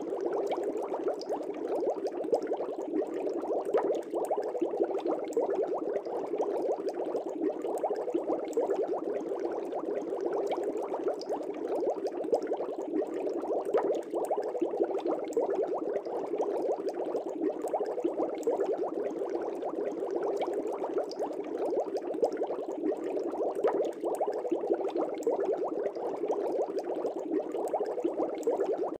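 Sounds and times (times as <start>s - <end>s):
air bubbling through aquarium water: 0.0s - 28.9s.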